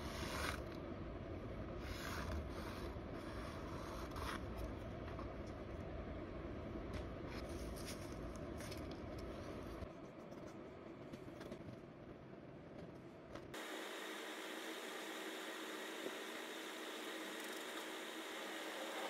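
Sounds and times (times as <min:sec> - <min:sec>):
room hiss and hum: 0:00.0 - 0:19.0.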